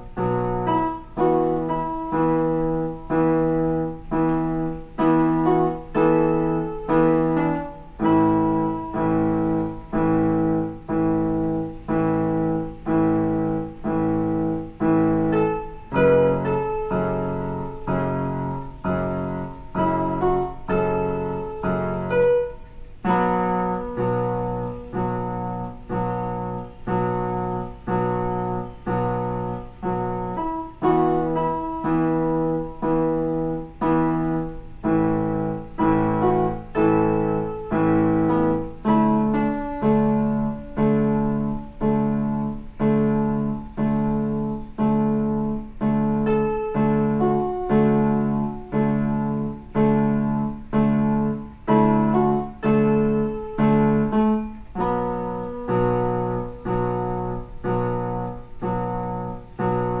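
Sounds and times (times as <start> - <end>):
electronic keyboard chords: 0.0 - 60.0.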